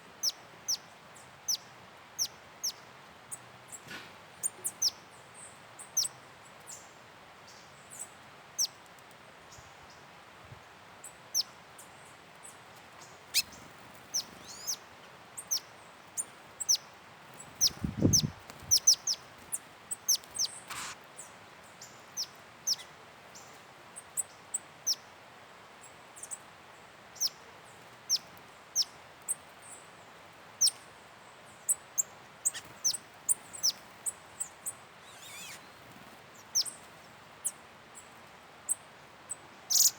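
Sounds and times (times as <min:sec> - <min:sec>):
small birds chirping: 0:00.2 - 0:25.1, 0:25.8 - 0:39.9.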